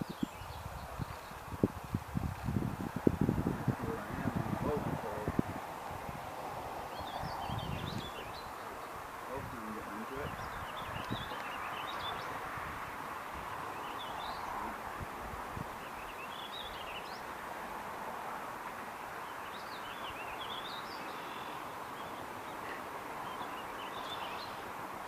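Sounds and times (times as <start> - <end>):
birds chirping: 0.0 - 1.7, 3.7 - 25.0
outdoor background hiss: 0.0 - 25.0.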